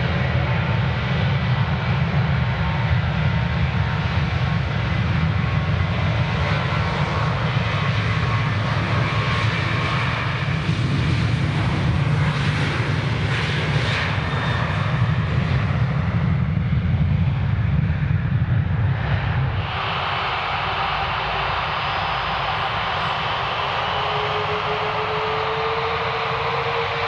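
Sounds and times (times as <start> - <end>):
jet engines at takeoff thrust: 0.0 - 27.0.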